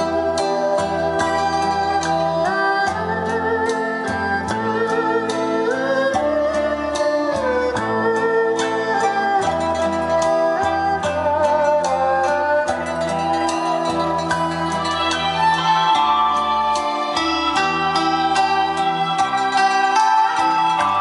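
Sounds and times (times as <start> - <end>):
music over loudspeakers: 0.0 - 21.0.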